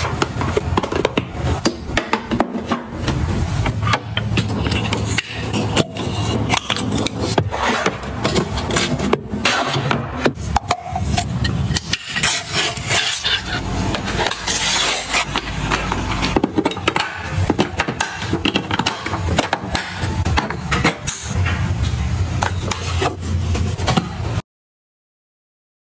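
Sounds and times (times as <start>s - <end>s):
rubbing and scraping: 0.0s - 24.4s.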